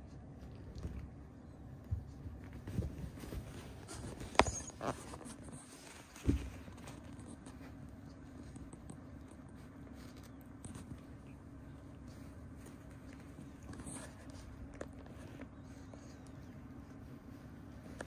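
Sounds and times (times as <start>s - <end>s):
cats scuffling on fabric: 0.0s - 18.0s
faint steady hum: 0.0s - 18.0s.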